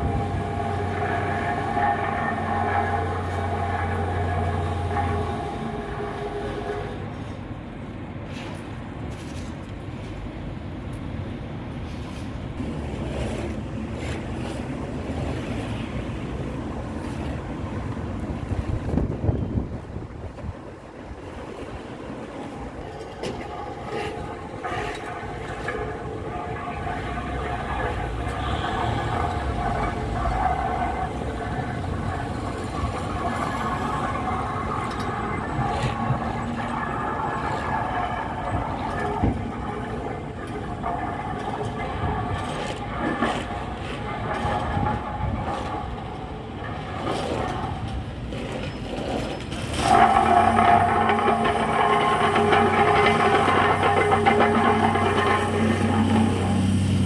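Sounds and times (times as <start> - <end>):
road machinery rumbling: 0.0 - 57.0.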